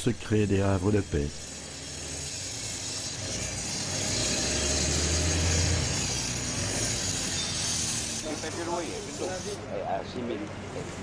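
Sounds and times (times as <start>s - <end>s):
street din: 0.0s - 11.0s
vehicle engine hum: 0.0s - 11.0s.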